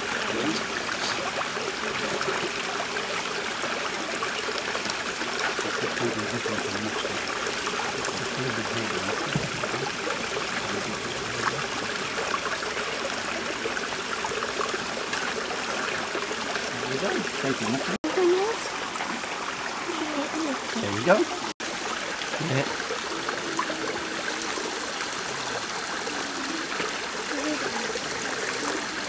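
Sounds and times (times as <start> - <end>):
flowing stream water: 0.0 - 29.0.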